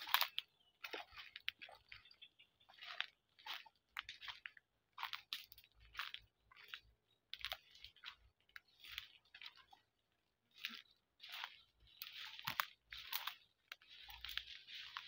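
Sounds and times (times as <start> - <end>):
footsteps crunching through dry leaves: 0.0 - 6.8, 7.4 - 9.8, 10.5 - 15.0.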